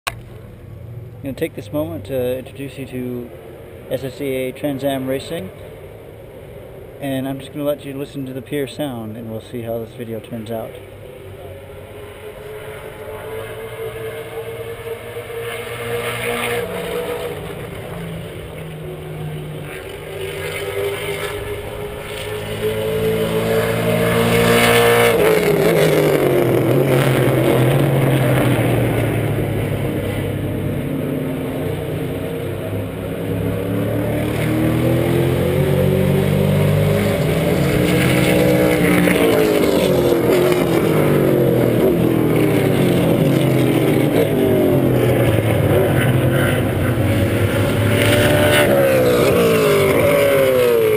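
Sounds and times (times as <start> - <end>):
cars braking and downshifting: 0.0 - 50.9
race car engines passing: 0.1 - 50.9.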